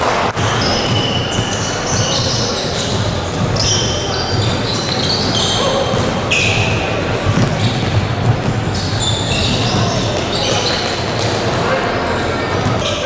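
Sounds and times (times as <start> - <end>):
basketball bouncing: 0.3 - 11.7
sneakers squeaking: 0.4 - 13.0.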